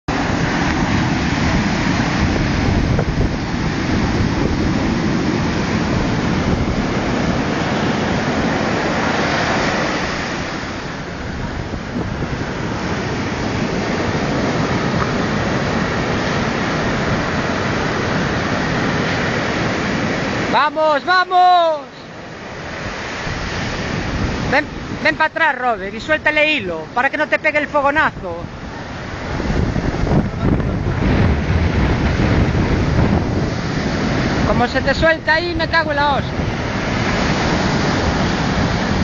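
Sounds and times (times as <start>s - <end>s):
wind buffeting microphone: 0.1s - 20.5s, 21.6s - 39.0s
surf breaking on beach: 0.1s - 39.0s.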